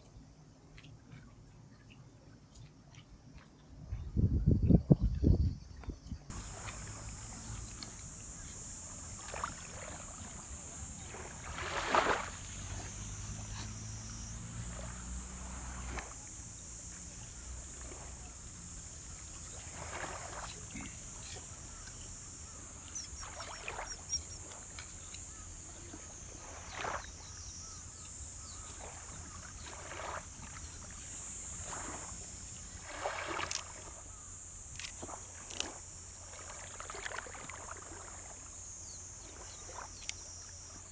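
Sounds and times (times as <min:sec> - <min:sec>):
high-pitched insect drone: 0:06.3 - 0:40.9
water lapping: 0:06.3 - 0:40.9.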